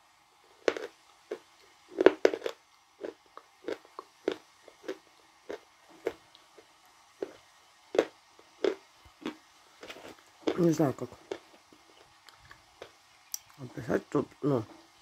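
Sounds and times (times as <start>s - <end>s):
wet chewing and lip smacks: 0.6s - 10.6s, 11.3s - 13.6s.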